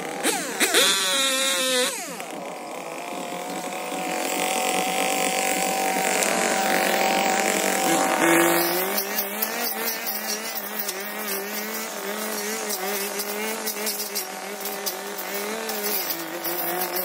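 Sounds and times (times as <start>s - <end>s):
chainsaw engine running: 0.0s - 17.0s.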